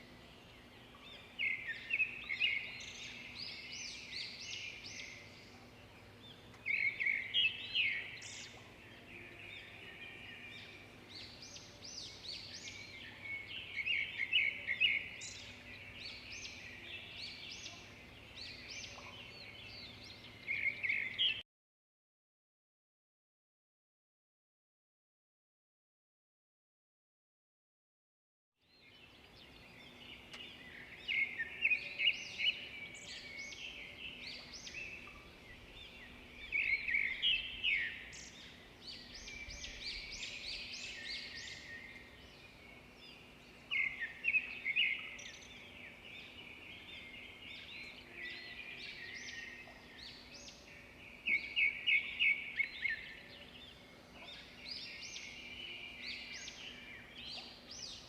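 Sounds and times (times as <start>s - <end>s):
songbirds chirping and trilling: 0.0s - 21.4s, 28.6s - 58.0s.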